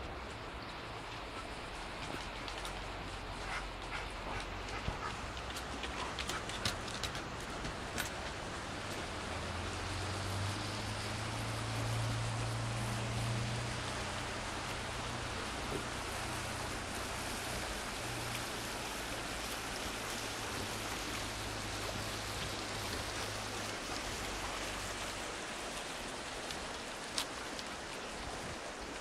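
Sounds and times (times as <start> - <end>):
creek rushing over rocks: 0.0 - 29.0.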